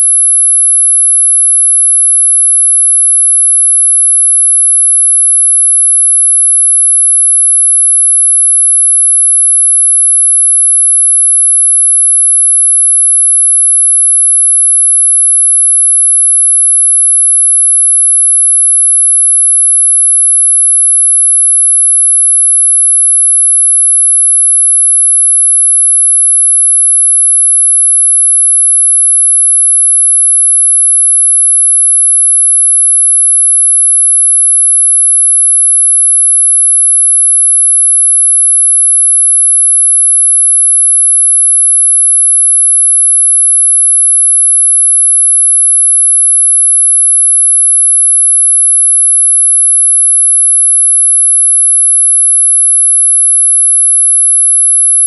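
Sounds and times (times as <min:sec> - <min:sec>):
high-pitched sine tone: 0:00.0 - 0:55.0.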